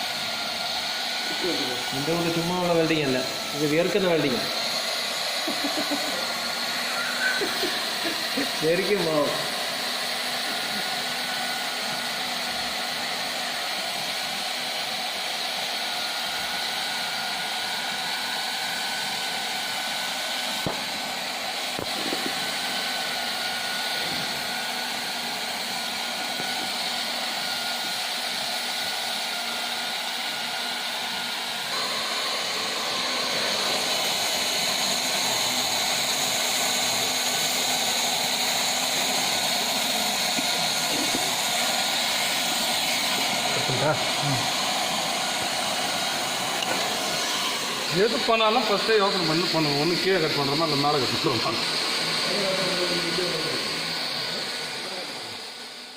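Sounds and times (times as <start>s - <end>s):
hot air welding gun blowing: 0.0s - 55.9s.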